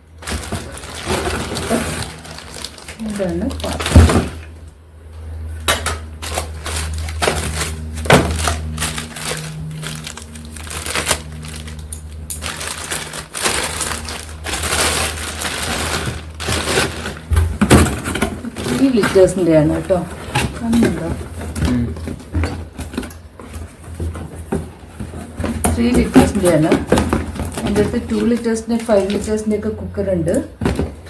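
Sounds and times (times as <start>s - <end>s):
plastic packaging crinkling: 0.0s - 4.7s, 5.7s - 31.0s
steady low hum: 0.0s - 31.0s.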